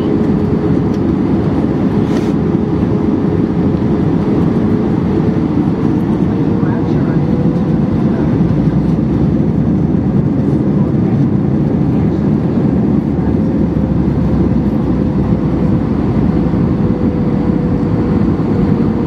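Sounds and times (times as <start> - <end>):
airplane cabin roar: 0.0 - 19.0.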